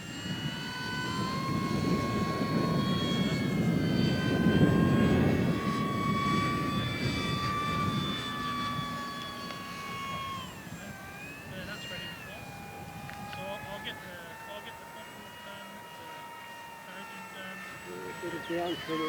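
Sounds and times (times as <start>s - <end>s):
model plane motor whine: 0.0s - 19.0s.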